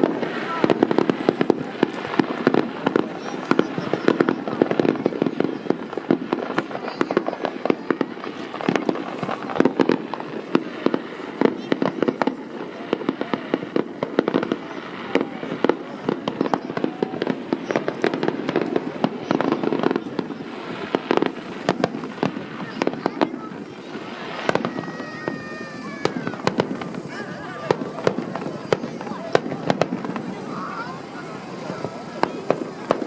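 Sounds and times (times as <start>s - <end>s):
fireworks banging and crackling: 0.0s - 33.0s.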